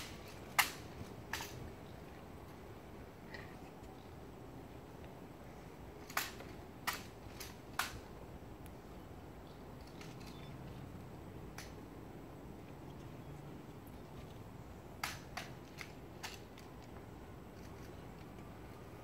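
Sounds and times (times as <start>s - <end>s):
quiet outdoor crowd ambience: 0.0s - 19.0s.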